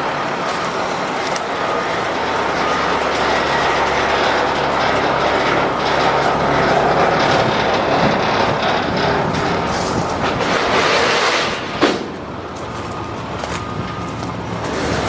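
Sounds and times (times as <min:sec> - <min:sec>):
diesel truck engine running: 0:00.0 - 0:15.0
steady rush of noise: 0:00.0 - 0:15.0.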